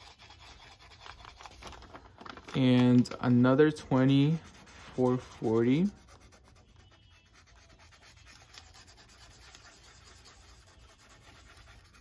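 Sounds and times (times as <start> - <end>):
marker rubbing on paper: 0.0 - 1.7, 3.3 - 12.0.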